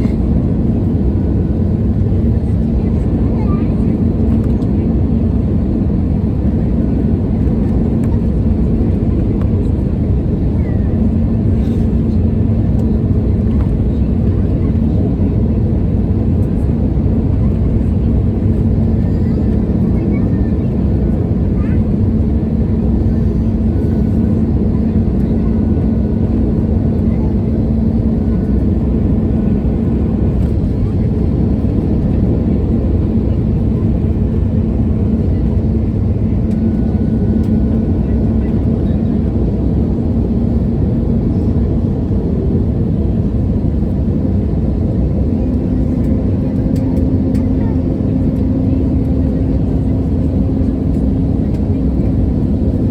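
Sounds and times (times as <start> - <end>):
aircraft cabin rumble: 0.0 - 52.9.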